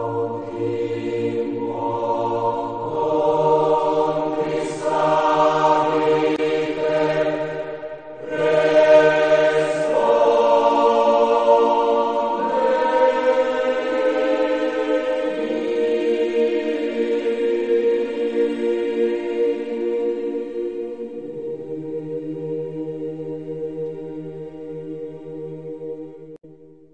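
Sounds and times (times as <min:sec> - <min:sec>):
choir singing sustained chords: 0:00.0 - 0:26.9.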